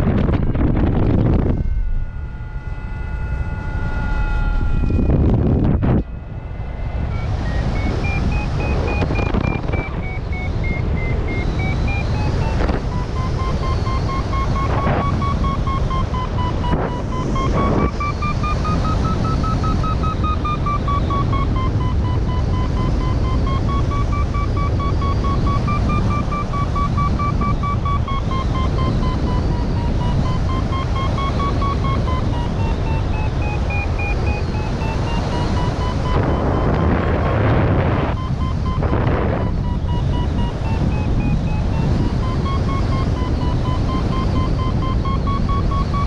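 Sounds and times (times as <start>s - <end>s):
variometer sink tone: 0.0s - 46.0s
wind rush on microphone: 0.0s - 46.0s.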